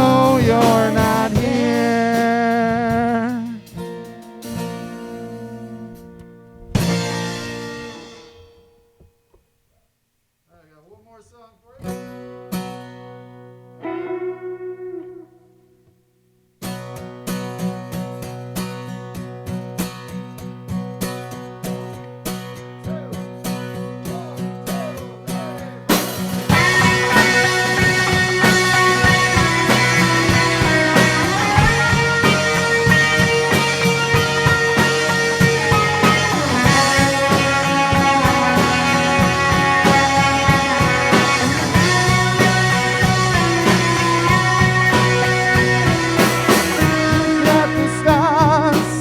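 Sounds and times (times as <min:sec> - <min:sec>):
rock band instrumental: 0:00.0 - 0:09.1, 0:12.0 - 0:15.8, 0:16.6 - 0:49.0.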